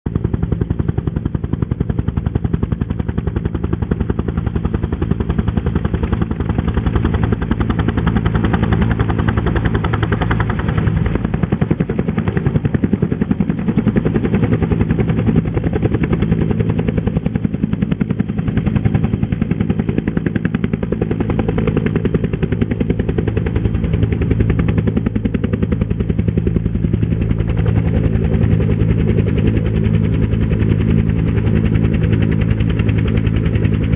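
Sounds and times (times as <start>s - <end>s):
helicopter engine drone: 0.1s - 33.9s
helicopter rotor blades beating: 0.1s - 33.9s.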